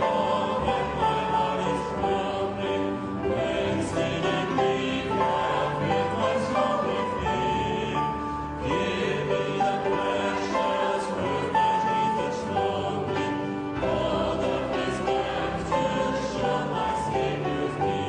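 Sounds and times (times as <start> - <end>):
choir singing sacred chords: 0.0 - 18.0.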